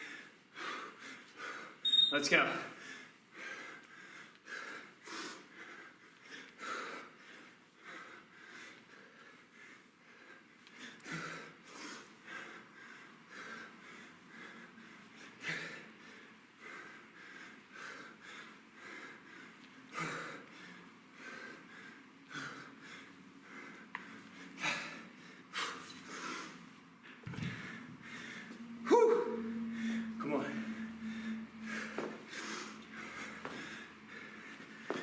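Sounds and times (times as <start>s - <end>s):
man breathing hard: 0.0s - 1.8s, 2.7s - 35.0s.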